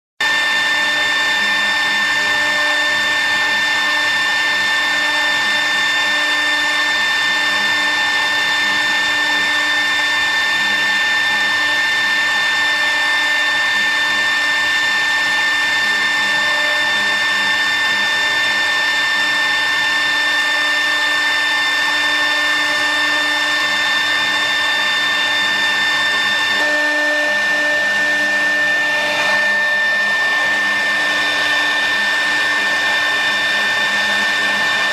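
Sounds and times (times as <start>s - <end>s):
electric machine high whine: 0.2s - 34.9s.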